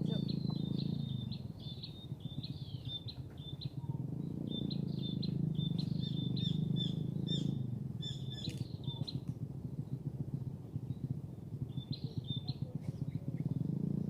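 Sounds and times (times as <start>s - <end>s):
bird chirping rapidly: 0.0s - 9.2s, 10.9s - 13.7s
steady low rumble: 0.0s - 14.0s.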